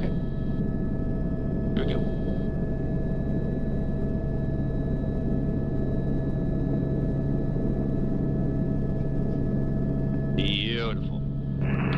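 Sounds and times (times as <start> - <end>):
helicopter cabin hum and turbine whine: 0.0 - 11.9.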